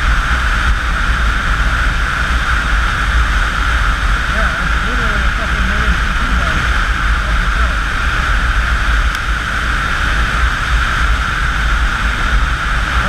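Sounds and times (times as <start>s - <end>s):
wind buffeting microphone: 0.0s - 13.0s
wind rush and road noise: 0.0s - 13.0s.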